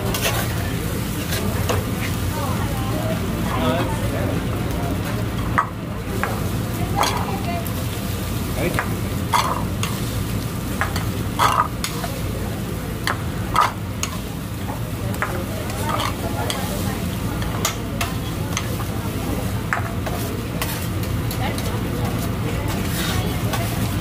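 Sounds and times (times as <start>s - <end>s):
food sizzling on a griddle: 0.0s - 24.0s.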